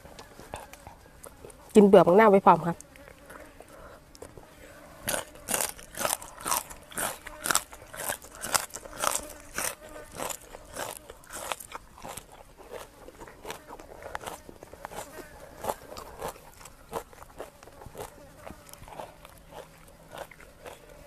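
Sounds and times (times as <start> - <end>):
crunchy chewing of raw vegetable: 0.0 - 2.1, 2.7 - 21.0.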